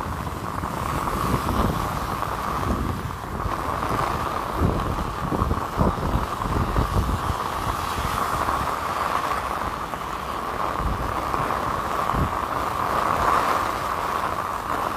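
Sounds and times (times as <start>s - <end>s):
heavy rain on an umbrella: 0.0s - 14.9s.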